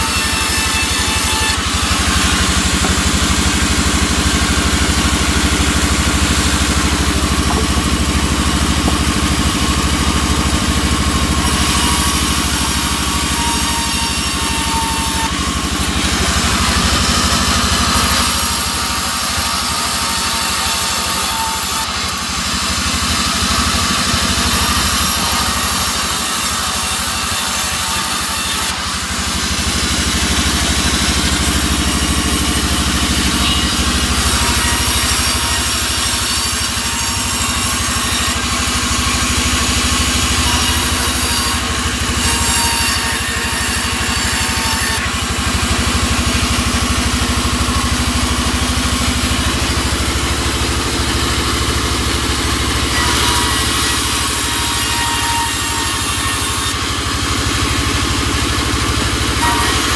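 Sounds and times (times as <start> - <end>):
band saw cutting wood: 0.0 - 59.9.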